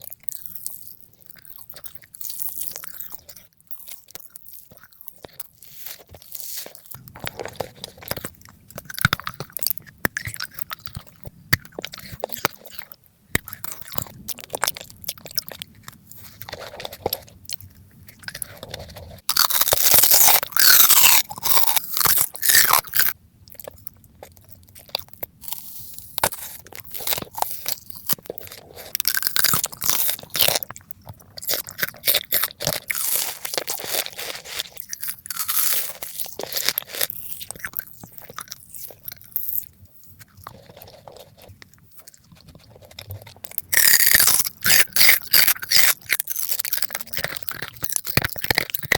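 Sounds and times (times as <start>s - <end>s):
crunchy bites and chewing: 0.0s - 48.9s.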